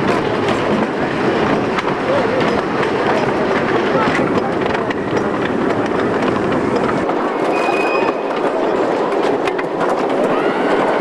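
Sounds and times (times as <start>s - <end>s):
rapid clacking: 0.0s - 10.3s
roller coaster rattling rumble: 0.0s - 11.0s.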